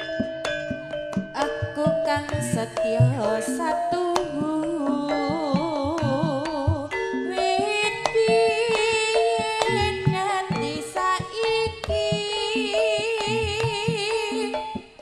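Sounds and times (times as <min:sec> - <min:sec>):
woman singing with vibrato: 0:01.4 - 0:15.0.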